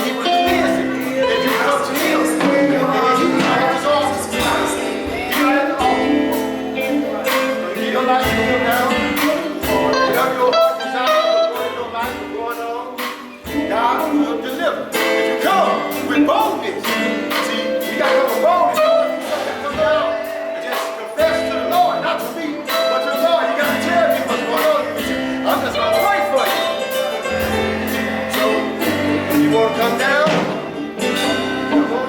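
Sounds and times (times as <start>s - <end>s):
gospel band playing: 0.0s - 32.0s
guitar: 0.0s - 32.0s
singing: 0.0s - 32.0s
steady drum beat: 0.0s - 32.0s.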